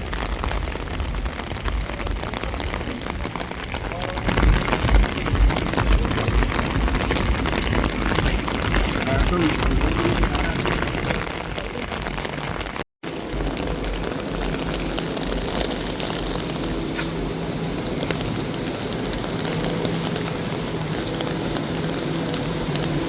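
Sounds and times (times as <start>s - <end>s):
rain falling steadily: 0.0s - 23.0s
vehicle engine humming: 0.0s - 23.0s.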